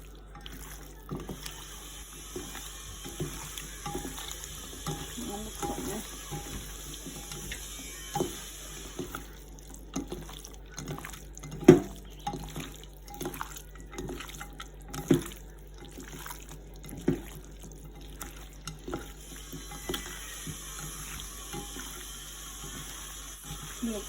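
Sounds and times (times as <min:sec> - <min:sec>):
water running into a sink: 0:00.0 - 0:24.0.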